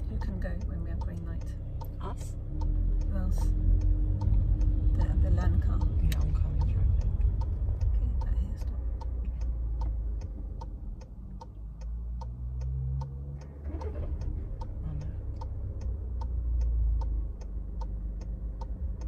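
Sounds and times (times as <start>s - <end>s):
engine and road rumble: 0.0s - 19.0s
turn signal ticking: 0.0s - 19.0s.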